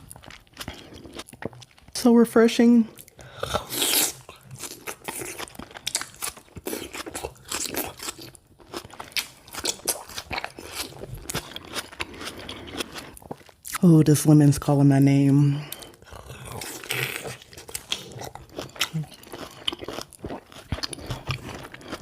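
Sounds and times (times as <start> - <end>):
chewing juicy tomato: 0.0 - 22.0.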